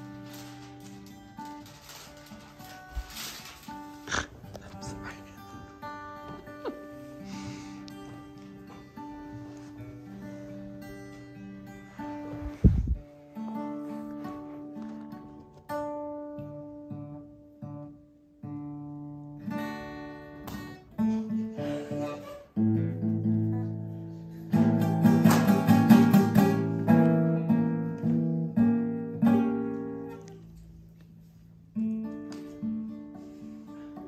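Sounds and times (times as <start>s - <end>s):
acoustic guitar: 0.0s - 34.0s.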